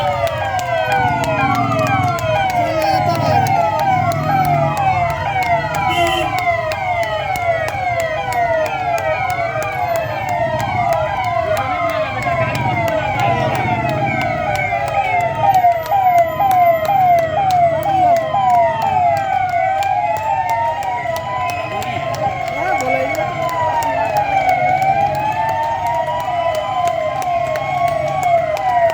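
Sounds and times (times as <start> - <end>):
police sirens yelping and wailing: 0.0 - 28.9.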